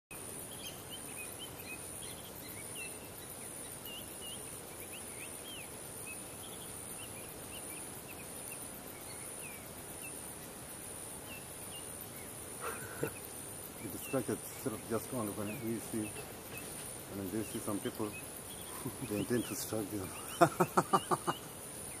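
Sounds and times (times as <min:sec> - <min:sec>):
birds chirping: 0:00.1 - 0:22.0
insect drone: 0:00.1 - 0:22.0
low background hiss: 0:00.1 - 0:22.0.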